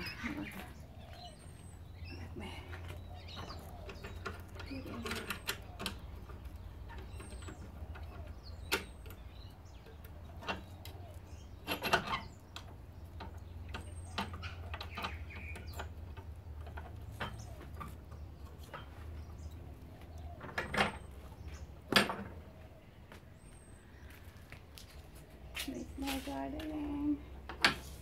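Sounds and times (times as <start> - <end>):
small birds chirping faintly: 0.0 - 28.0.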